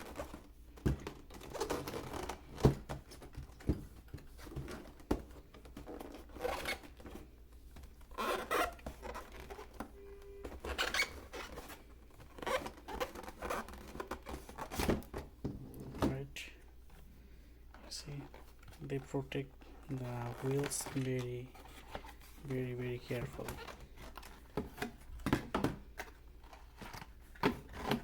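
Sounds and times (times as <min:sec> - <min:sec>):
packaging rustling and scraping: 0:00.0 - 0:17.1, 0:17.8 - 0:28.0.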